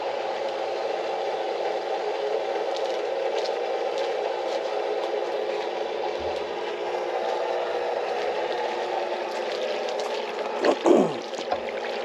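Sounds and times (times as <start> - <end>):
pool filter pump whirring hum: 0.0 - 12.0.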